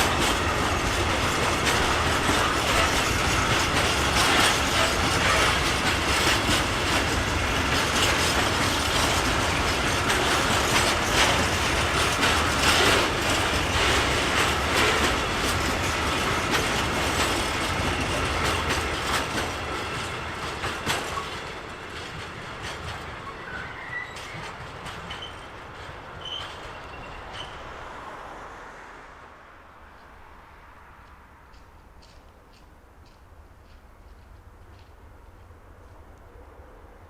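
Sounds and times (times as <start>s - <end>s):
freight train wheels clattering: 0.0s - 27.7s, 31.0s - 36.1s.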